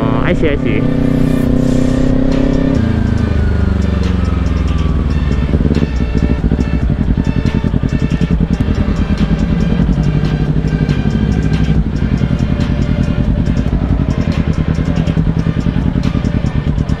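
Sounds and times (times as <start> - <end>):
background music: 0.0 - 17.0
motorcycle engine running: 0.0 - 17.0.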